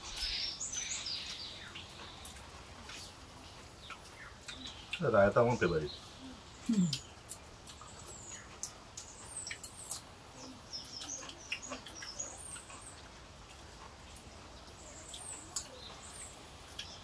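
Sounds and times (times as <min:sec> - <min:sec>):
faint clicks of people eating: 0:00.0 - 0:17.0
small birds chirping: 0:00.0 - 0:17.0.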